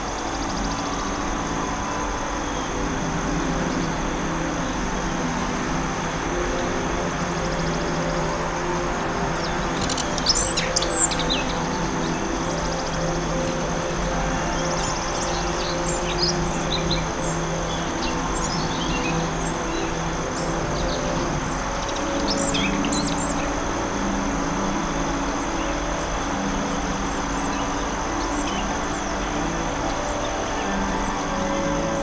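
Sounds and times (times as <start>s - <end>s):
low ambient music drone: 0.0s - 32.0s.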